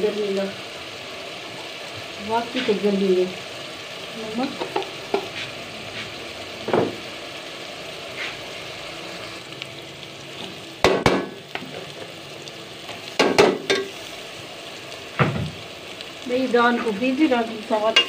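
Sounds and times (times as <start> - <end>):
gourd sizzling in a pot: 0.0 - 18.0.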